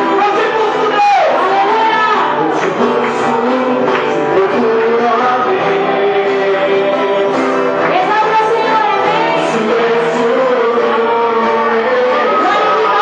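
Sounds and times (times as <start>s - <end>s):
acoustic guitar: 0.0s - 13.0s
backing singers: 0.0s - 13.0s
gospel band playing: 0.0s - 13.0s
man singing: 0.0s - 13.0s.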